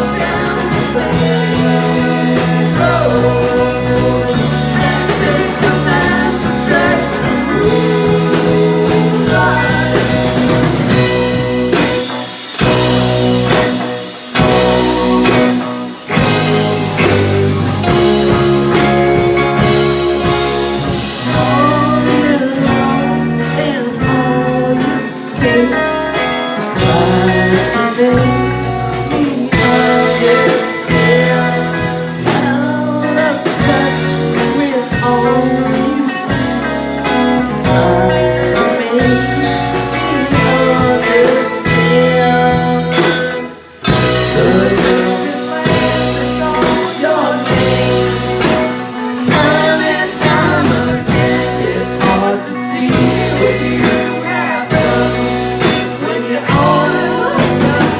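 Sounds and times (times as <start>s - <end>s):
bass: 0.0s - 57.9s
drums: 0.0s - 57.9s
electric guitars: 0.0s - 57.9s.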